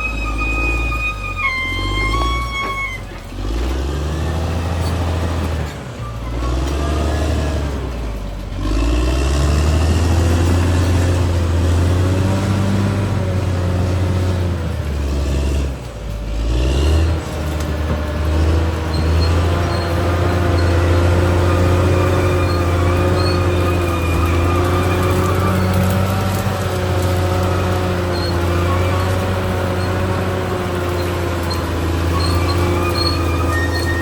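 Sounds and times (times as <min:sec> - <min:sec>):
bulldozer diesel engine under load: 0:00.0 - 0:34.0.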